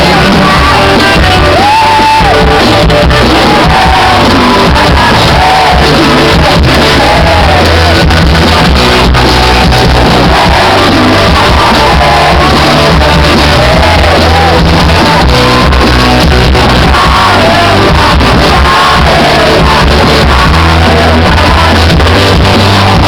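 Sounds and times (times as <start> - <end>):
bass guitar: 0.0 - 23.0
person singing: 0.0 - 23.0
steady drum beat: 0.0 - 23.0.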